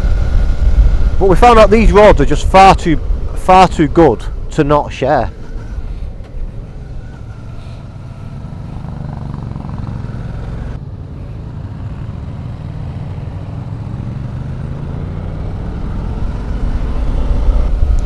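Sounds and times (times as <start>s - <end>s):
motorcycle engine running: 0.0s - 3.6s, 4.2s - 18.0s
wind rumble: 0.0s - 18.0s.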